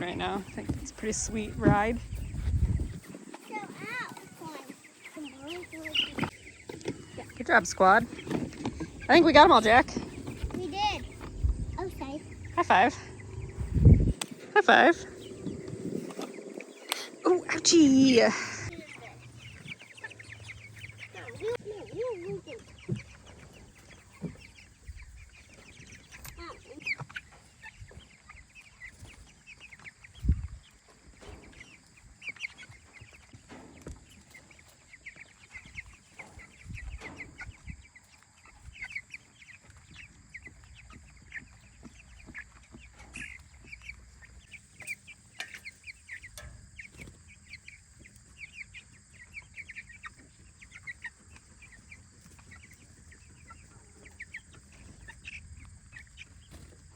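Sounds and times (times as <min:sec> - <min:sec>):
chicks peeping and cheeping: 0:00.0 - 0:56.9.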